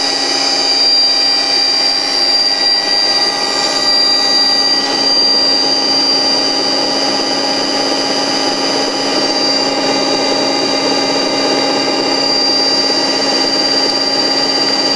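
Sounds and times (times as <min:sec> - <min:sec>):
electric motor running: 0:00.0 - 0:14.9
high whine: 0:00.0 - 0:14.9.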